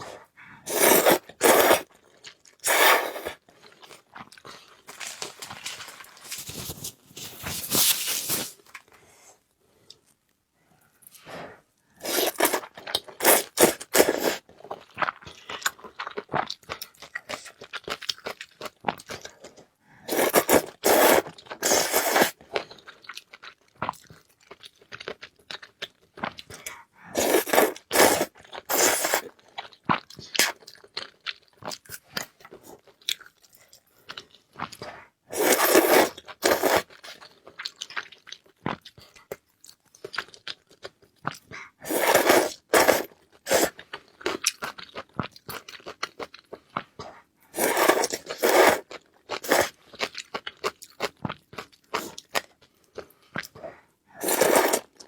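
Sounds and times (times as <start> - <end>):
crunchy chewing: 0.7 - 8.6, 12.0 - 19.5, 20.1 - 40.9, 41.8 - 46.9, 47.6 - 53.6, 54.2 - 55.0.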